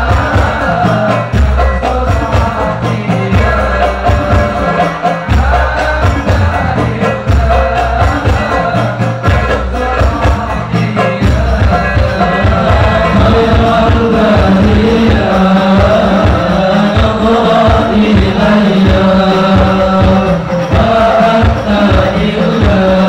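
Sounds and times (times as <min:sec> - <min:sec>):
deep bass drum beating: 0:00.0 - 0:23.0
frame drums: 0:00.0 - 0:23.0
man singing through loudspeaker: 0:00.0 - 0:23.0.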